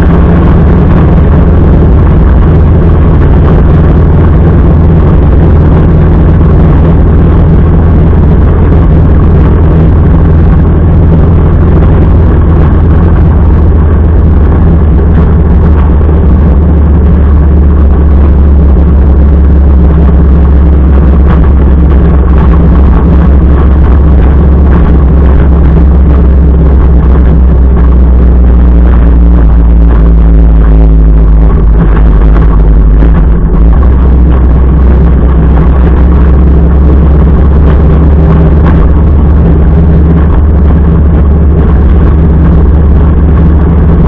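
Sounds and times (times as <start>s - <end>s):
motorcycle engine running steadily: 0.0s - 44.0s
rush of riding noise: 0.0s - 44.0s.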